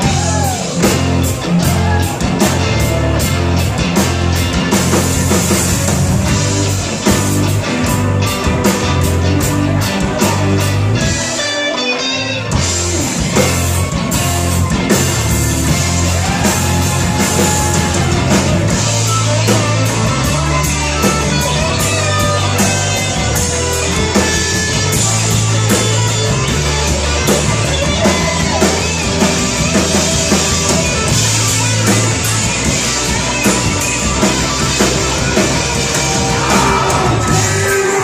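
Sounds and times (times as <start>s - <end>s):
bass line: 0.0s - 38.0s
drum kit: 0.0s - 38.0s
lead electric guitar: 0.0s - 38.0s.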